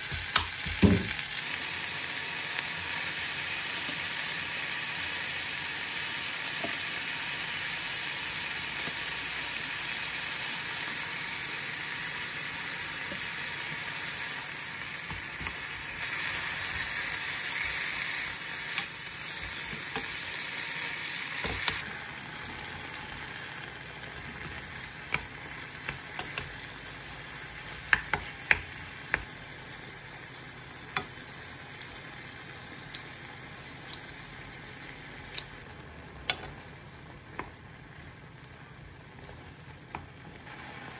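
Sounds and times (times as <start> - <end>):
food sizzling in a wok: 0.0 - 40.9.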